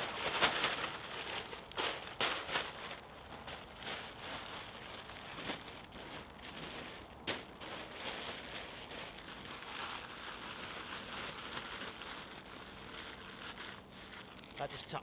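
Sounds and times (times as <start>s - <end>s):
tarp crinkling and rustling: 0.0s - 15.0s.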